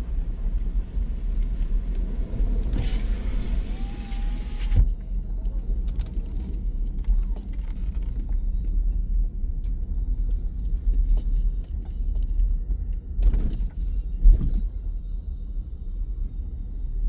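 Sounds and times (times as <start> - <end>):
car driving rumble from inside: 0.0 - 17.0.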